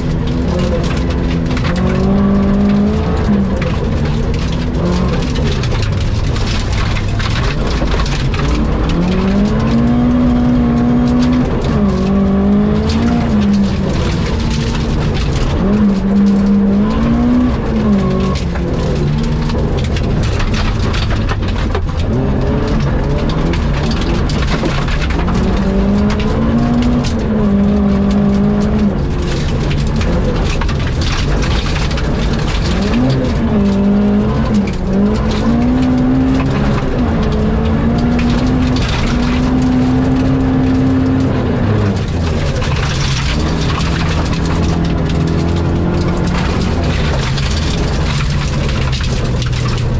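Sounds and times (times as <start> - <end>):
rally car engine running hard: 0.0 - 49.9
road and tyre noise: 0.0 - 49.9.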